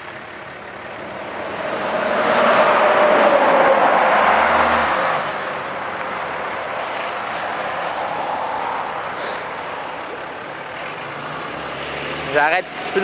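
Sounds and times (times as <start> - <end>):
truck passing close by: 0.0 - 13.0.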